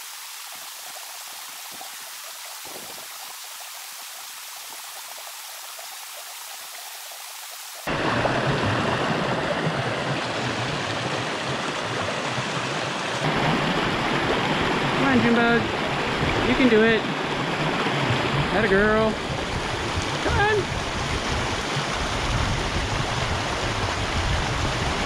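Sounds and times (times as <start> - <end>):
water rushing through a dam breach: 0.0 - 25.0.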